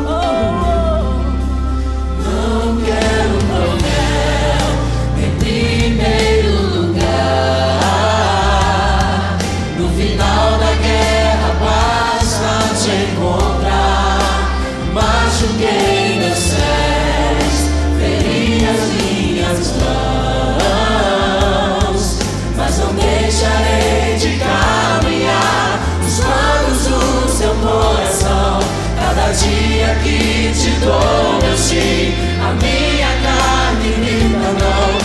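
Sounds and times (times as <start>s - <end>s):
group singing gospel song: 0.0s - 35.0s
instrumental backing with bass: 0.0s - 35.0s.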